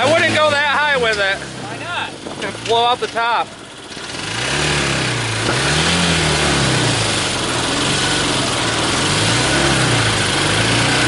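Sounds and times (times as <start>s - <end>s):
car engine revving hard: 0.0s - 1.9s, 3.8s - 11.0s.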